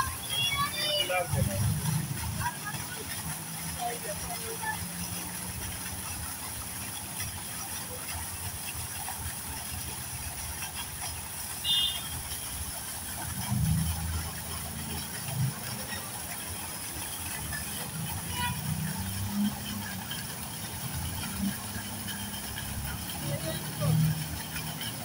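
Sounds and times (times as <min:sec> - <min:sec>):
constant high hiss: 0:00.0 - 0:25.0.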